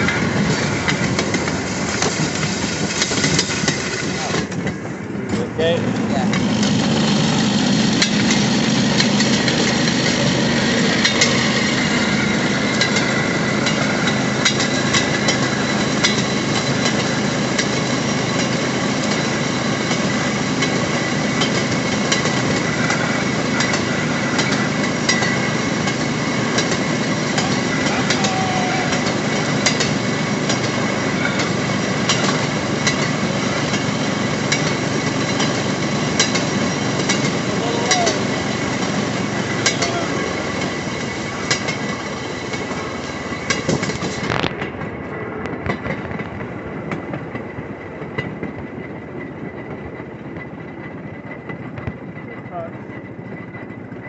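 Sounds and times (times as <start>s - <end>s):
steel wheels clacking on rails: 0.0s - 54.0s.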